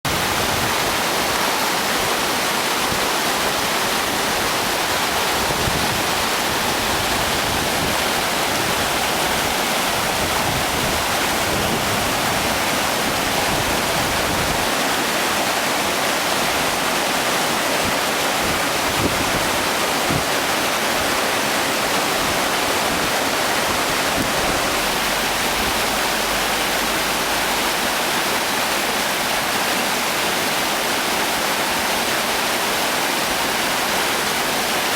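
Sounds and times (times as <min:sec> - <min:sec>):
mountain stream rushing: 0:00.1 - 0:34.9.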